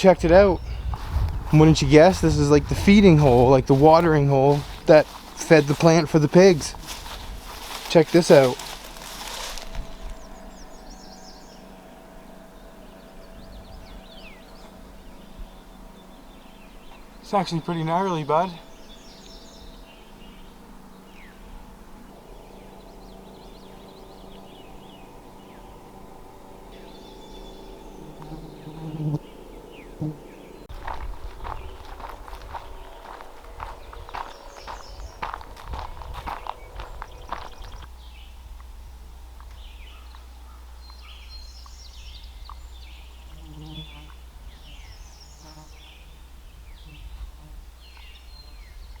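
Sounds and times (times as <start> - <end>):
small birds chirping: 0.0 - 11.9, 12.5 - 49.0
steady low rumble: 0.0 - 43.4
faint steady hum: 0.0 - 49.0.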